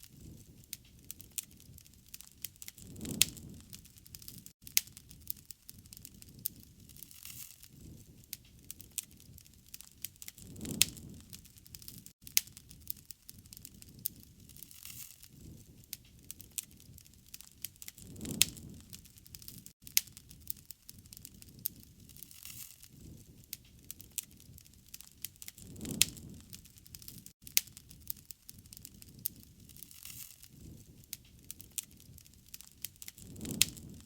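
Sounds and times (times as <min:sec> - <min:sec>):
campfire crackling and popping: 0:00.0 - 0:34.0
low rush of flame: 0:00.1 - 0:34.0.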